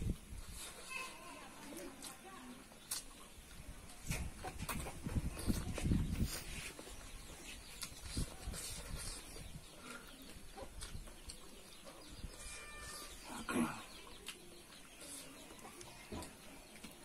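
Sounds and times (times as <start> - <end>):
wet chewing: 1.8 - 12.4, 14.0 - 17.0.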